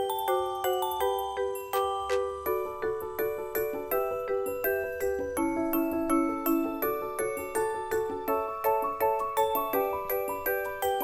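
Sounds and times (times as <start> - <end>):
glockenspiel tune: 0.0 - 11.0.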